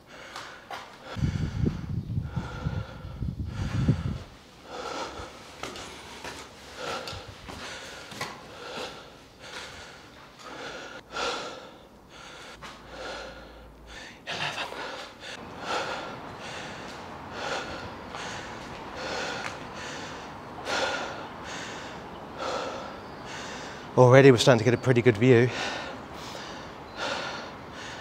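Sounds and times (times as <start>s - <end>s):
man breathing hard: 0.0s - 24.0s, 25.5s - 28.0s.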